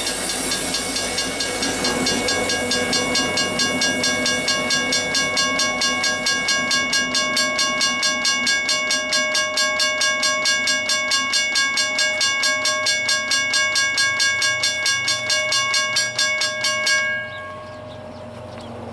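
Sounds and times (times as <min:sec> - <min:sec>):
railroad crossing bells ringing: 0:00.0 - 0:18.4.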